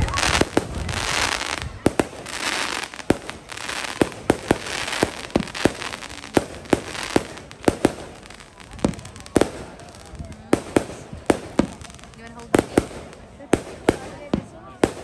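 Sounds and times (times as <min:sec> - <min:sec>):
fireworks bangs: 0:00.0 - 0:15.0
hiss between firework bangs: 0:00.0 - 0:15.0.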